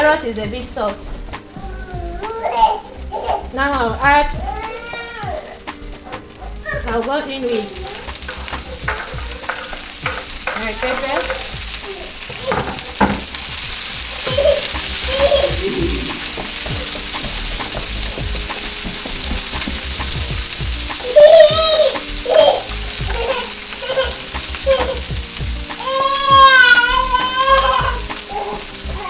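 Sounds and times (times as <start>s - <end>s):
vegetables sizzling in hot oil: 0.0s - 29.0s
spoon scraping and knocking pan: 2.9s - 29.0s.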